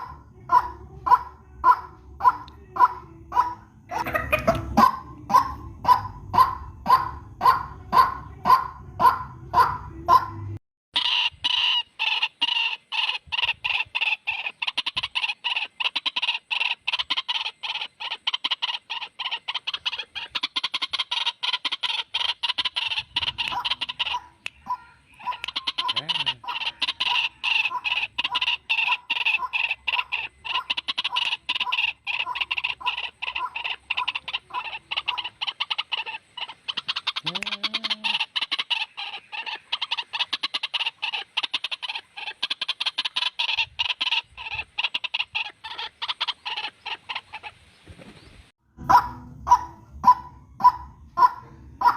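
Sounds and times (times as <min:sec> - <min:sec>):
bird call harsh repeated notes: 0:00.0 - 0:47.5.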